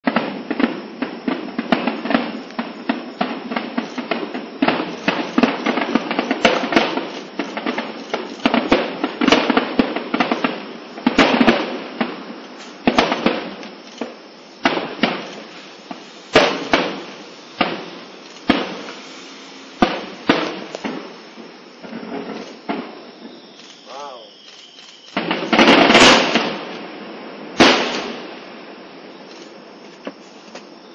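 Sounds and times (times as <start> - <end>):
firework bangs: 0.0 - 30.9
firework crackle: 0.0 - 30.9.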